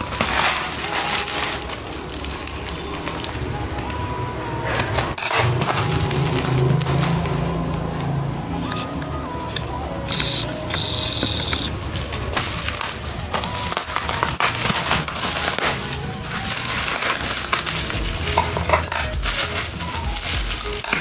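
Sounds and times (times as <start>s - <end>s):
scissors cutting plastic: 0.0s - 3.4s, 4.7s - 21.0s
plastic wrapping crinkling: 0.0s - 9.0s, 10.1s - 21.0s.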